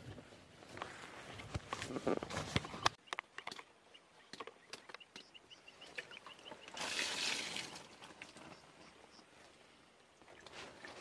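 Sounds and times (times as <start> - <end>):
rustle: 0.0 - 3.7, 5.8 - 11.0.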